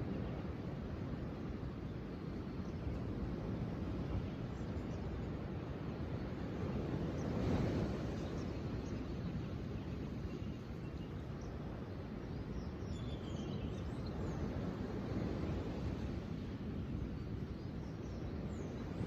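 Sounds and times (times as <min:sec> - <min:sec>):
low rushing nature ambience: 0:00.0 - 0:19.0.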